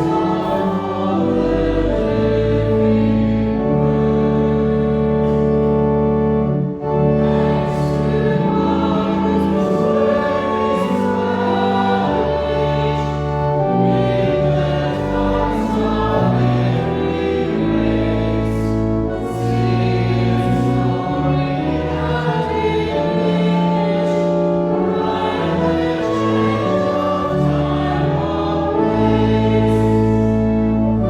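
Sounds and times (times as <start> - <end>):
congregation singing a hymn: 0.0 - 31.0
held chord accompaniment: 0.0 - 31.0.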